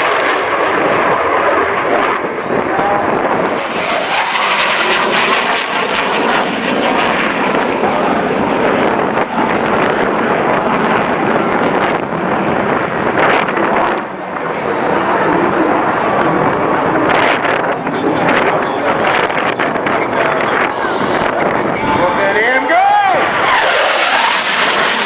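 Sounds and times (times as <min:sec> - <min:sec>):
aircraft engine roar: 0:00.0 - 0:25.0.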